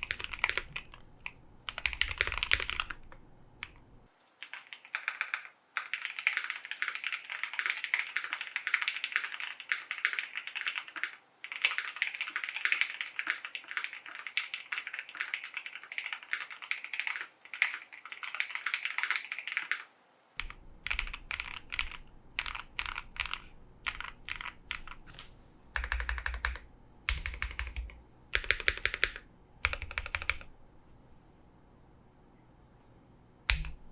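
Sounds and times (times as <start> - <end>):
mechanical keyboard typing: 0.0 - 3.8, 4.4 - 19.8, 20.4 - 25.1, 25.8 - 30.5.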